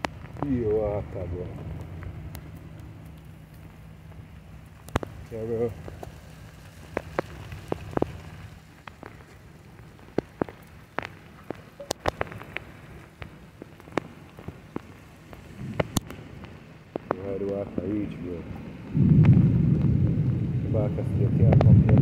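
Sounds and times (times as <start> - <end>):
rain on standing water: 0.0 - 22.0.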